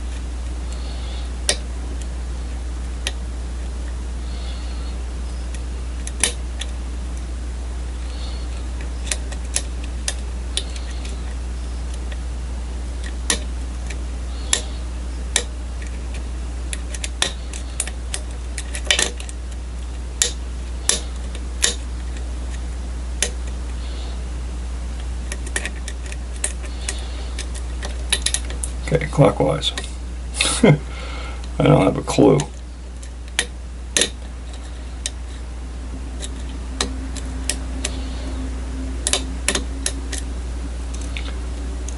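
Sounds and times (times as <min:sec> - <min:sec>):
low hum: 0:00.0 - 0:41.9.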